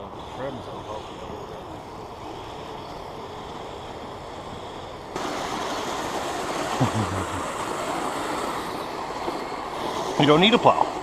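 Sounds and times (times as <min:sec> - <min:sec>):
toy snow machine running: 0:00.0 - 0:11.0.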